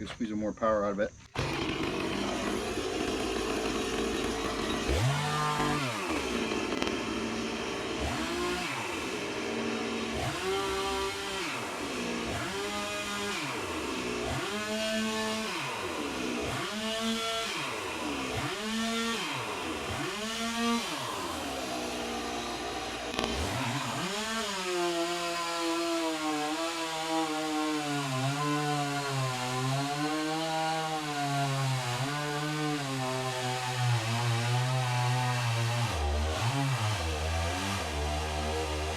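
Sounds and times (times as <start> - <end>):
chainsaw revving: 1.3 - 38.9.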